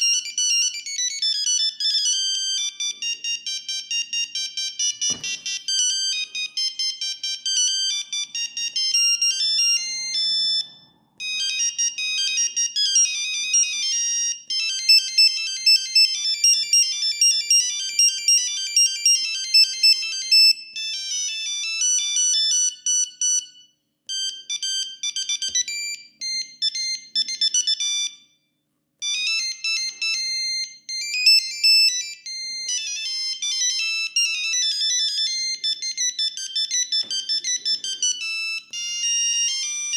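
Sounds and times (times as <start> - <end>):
mobile phone ringtone melodies: 0.0 - 39.9.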